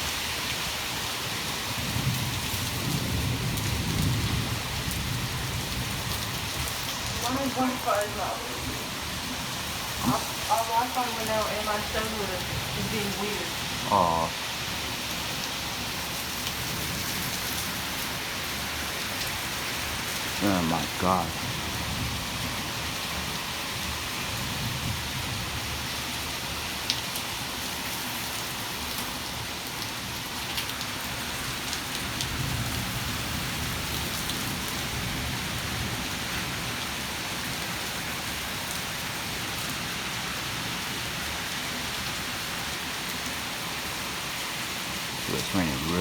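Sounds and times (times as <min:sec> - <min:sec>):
heavy rain pouring: 0:00.0 - 0:46.0
raindrops ticking close by: 0:01.8 - 0:24.9, 0:26.6 - 0:42.4.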